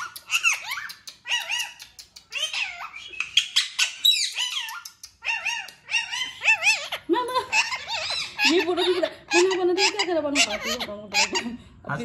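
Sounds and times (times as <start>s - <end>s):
parakeet chattering: 0.0s - 11.6s.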